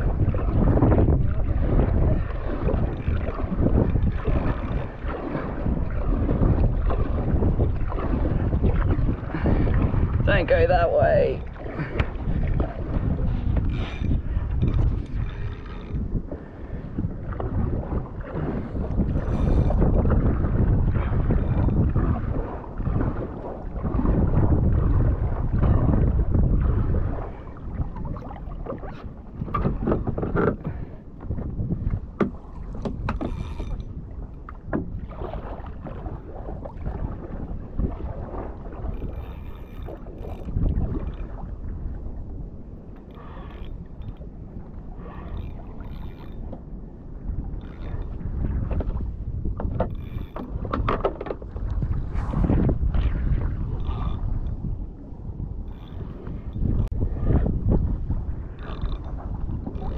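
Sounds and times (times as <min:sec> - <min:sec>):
water slapping against kayak hull: 0:00.0 - 0:59.9
wind buffeting microphone: 0:00.0 - 0:59.9.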